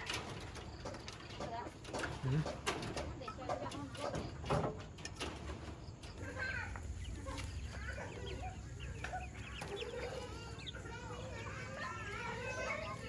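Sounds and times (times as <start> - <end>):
chickens chirping and clucking: 0.0 - 13.0.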